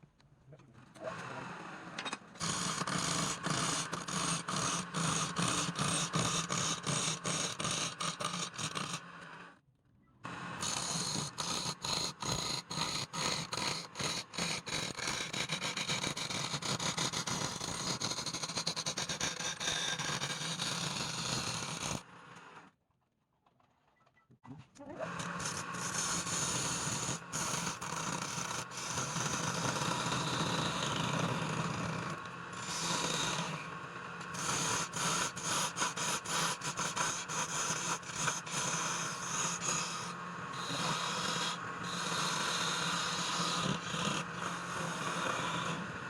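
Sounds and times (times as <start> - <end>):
lathe tool scraping spinning wood: 2.4 - 9.4, 10.6 - 22.6, 25.2 - 46.0.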